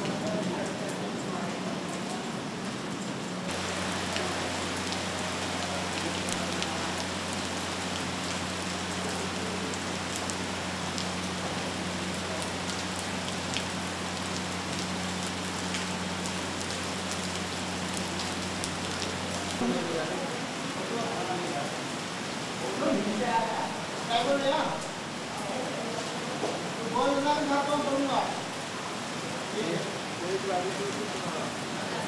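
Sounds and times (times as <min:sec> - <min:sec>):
raindrops ticking and splashing: 0:00.0 - 0:32.0
steady rain falling: 0:00.0 - 0:32.0.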